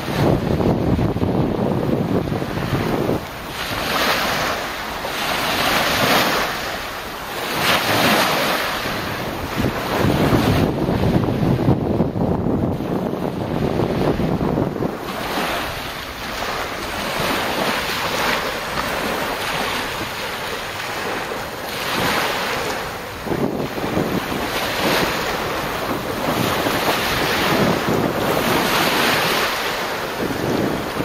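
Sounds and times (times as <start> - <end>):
small waves washing up beach: 0.0 - 31.0
wind rumbling on microphone: 0.0 - 31.0.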